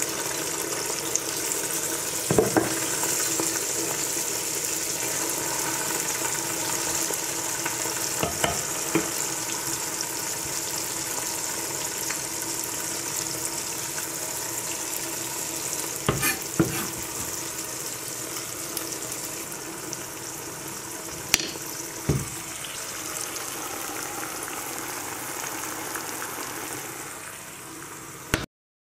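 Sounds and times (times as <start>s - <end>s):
food sizzling in a pan: 0.0s - 28.4s.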